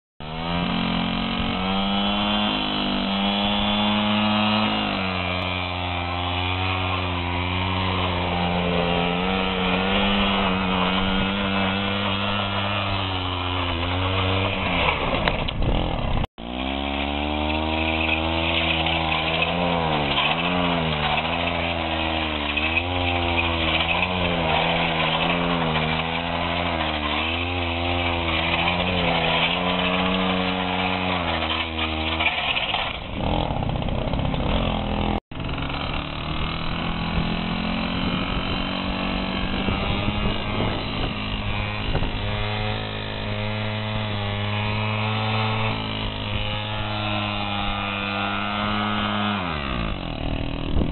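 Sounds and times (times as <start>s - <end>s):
moped engine revving: 0.2s - 50.9s.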